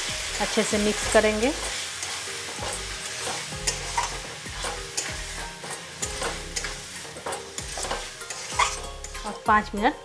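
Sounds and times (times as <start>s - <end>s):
light frying sizzle: 0.0s - 10.0s
metal spatula scraping a pan: 0.3s - 9.5s.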